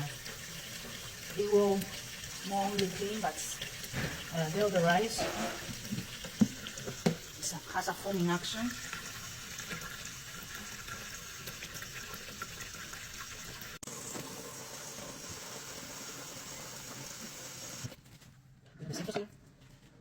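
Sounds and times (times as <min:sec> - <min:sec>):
water running from faucet into sink: 0:00.0 - 0:18.0.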